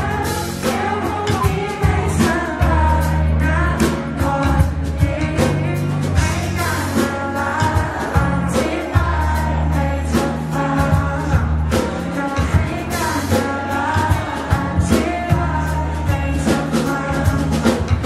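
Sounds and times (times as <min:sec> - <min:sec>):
drum beat and bass: 0:00.0 - 0:18.0
man singing into microphone: 0:00.0 - 0:18.0.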